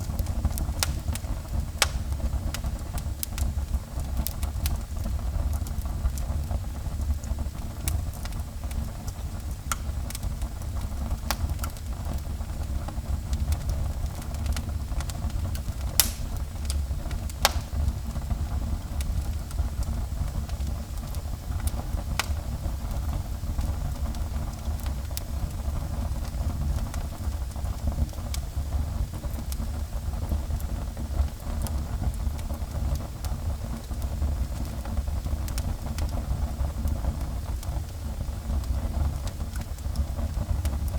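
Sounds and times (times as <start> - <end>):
fire popping and crackling: 0.0 - 40.9
fire rumbling: 0.0 - 40.9.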